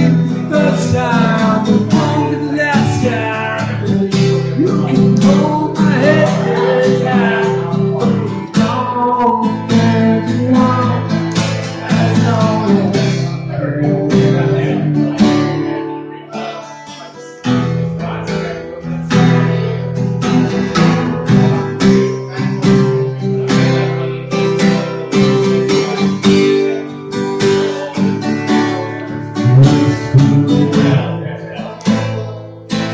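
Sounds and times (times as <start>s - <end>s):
acoustic guitar strumming: 0.0s - 32.9s.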